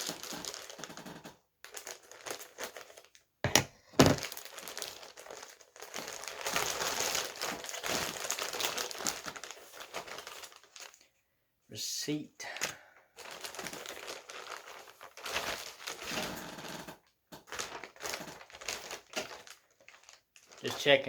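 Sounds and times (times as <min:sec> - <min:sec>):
packaging crinkling and rustling: 0:00.0 - 0:11.1, 0:12.6 - 0:16.8, 0:17.4 - 0:21.0.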